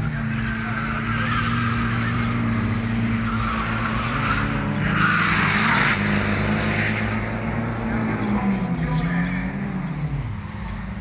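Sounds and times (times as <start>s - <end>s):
tyres squealing on asphalt: 0.0s - 10.7s.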